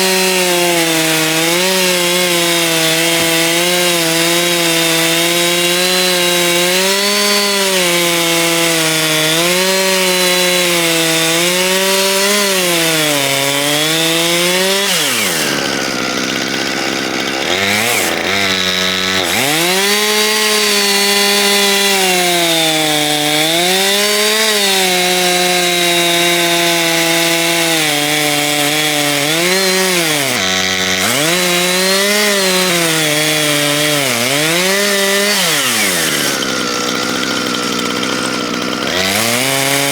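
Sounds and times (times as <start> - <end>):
chainsaw ripping a log: 0.0 - 39.9.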